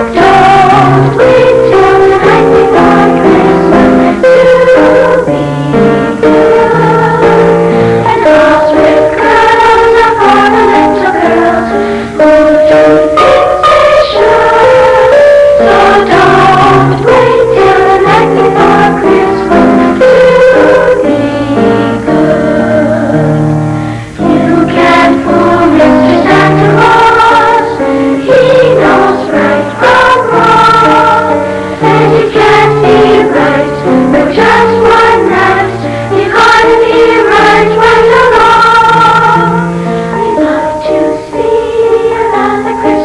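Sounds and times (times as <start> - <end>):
choir singing: 0.0 - 43.0
musical accompaniment: 0.0 - 43.0.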